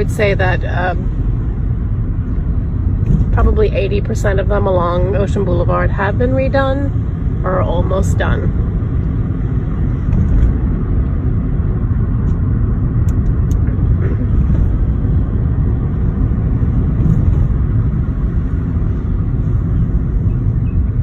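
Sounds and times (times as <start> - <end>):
car interior road noise: 0.0 - 21.0.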